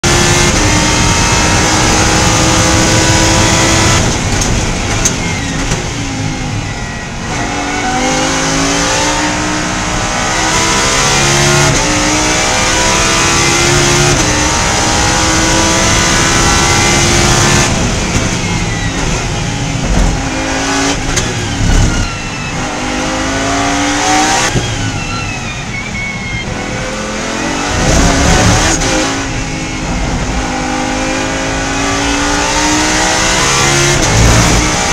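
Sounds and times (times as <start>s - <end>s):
race car engine revving: 0.0s - 34.9s.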